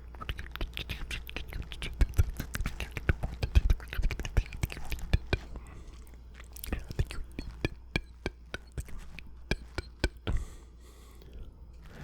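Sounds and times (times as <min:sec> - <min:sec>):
mouth clicks and smacks: 0:00.0 - 0:10.5.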